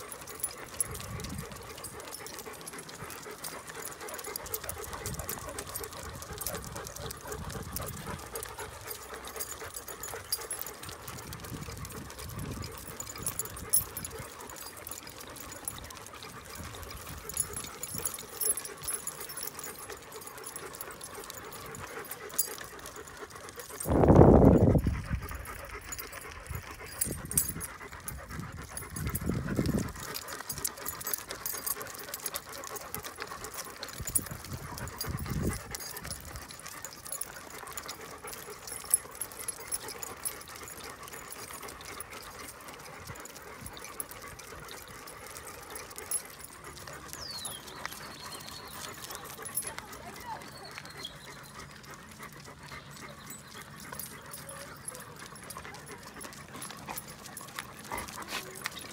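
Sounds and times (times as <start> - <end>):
chain collars jingling: 0.0 - 58.9
dogs panting: 0.0 - 58.9.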